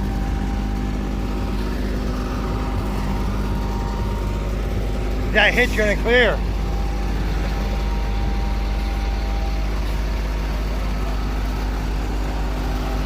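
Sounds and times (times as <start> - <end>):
paving machine engine running: 0.0 - 13.0.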